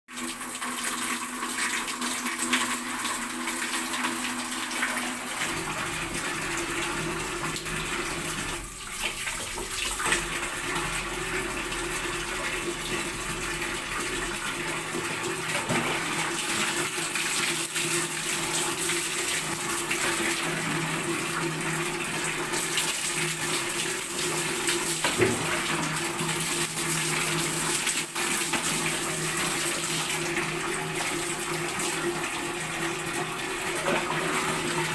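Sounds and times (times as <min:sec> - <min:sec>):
water running from tap: 0:00.1 - 0:34.9.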